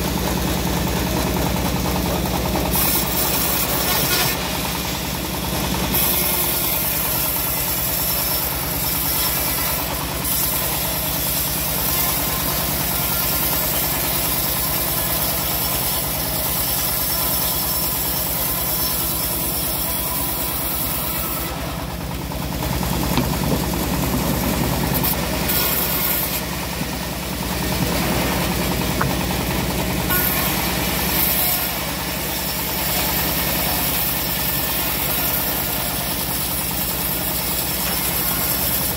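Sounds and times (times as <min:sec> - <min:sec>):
band saw cutting logs: 0:00.0 - 0:38.9
sawmill engine running: 0:00.0 - 0:38.9.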